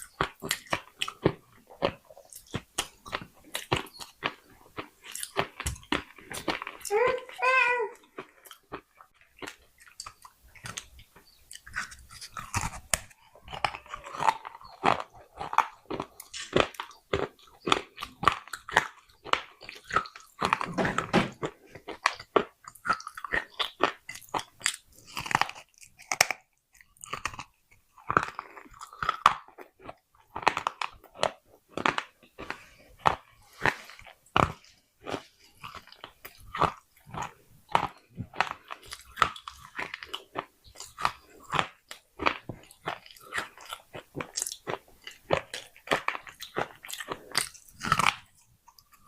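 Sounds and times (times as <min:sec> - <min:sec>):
crunching and chewing clay: 0:00.0 - 0:49.0.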